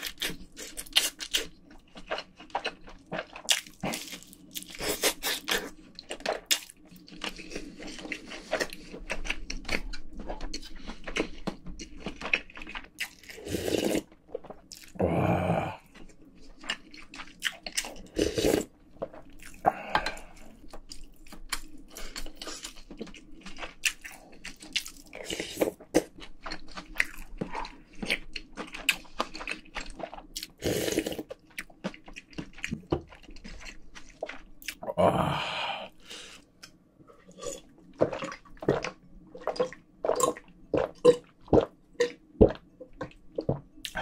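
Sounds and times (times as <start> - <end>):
chewing and biting food: 0.0 - 15.0, 15.8 - 34.9, 36.6 - 44.0.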